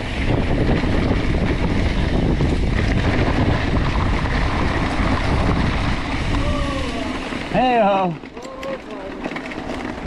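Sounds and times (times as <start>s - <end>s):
bike tyres rolling on dirt: 0.0s - 10.0s
wind buffeting microphone: 0.0s - 10.0s.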